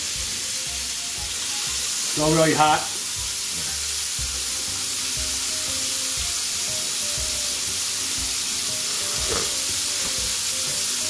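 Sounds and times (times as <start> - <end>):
shrimp sizzling in hot oil: 0.0 - 11.0.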